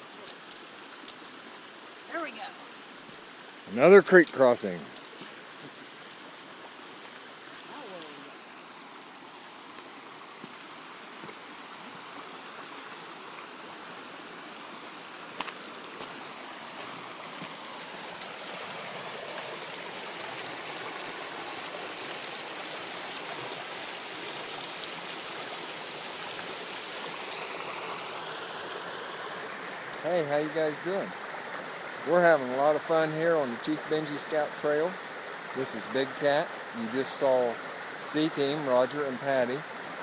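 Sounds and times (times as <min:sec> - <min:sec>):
rocky creek rushing and splashing: 0:00.0 - 0:40.0.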